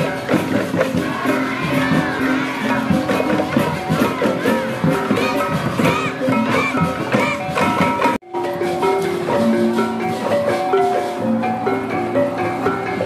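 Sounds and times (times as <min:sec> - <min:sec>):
mallet percussion melody: 0:00.0 - 0:13.0.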